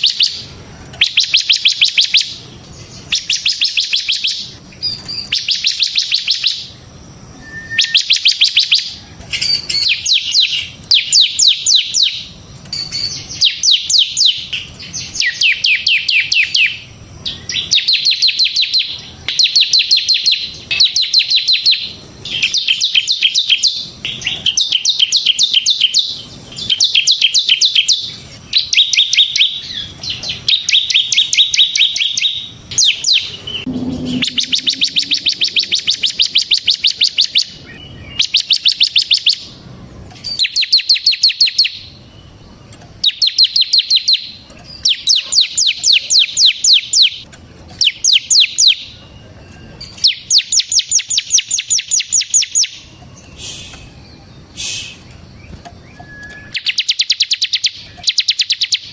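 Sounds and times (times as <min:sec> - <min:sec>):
bird singing fast trilled notes: 0:00.0 - 0:06.8, 0:07.4 - 0:39.6, 0:49.8 - 0:58.9.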